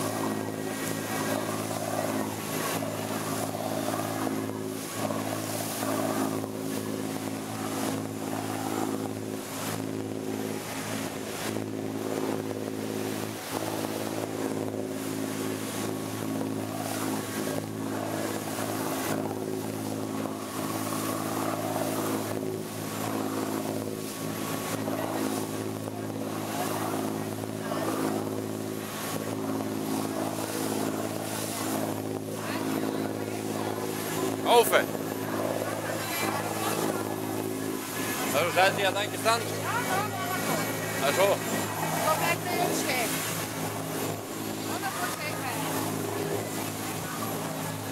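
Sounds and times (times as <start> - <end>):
boat engine droning: 0.0 - 47.9
wake rushing along hull: 0.0 - 47.9.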